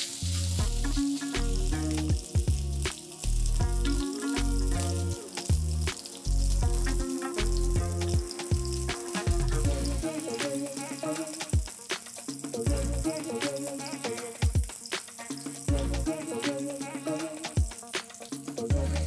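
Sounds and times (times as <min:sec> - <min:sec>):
kebabs sizzling in a pan: 0:00.0 - 0:19.0
music with steady bass beat: 0:00.0 - 0:19.0.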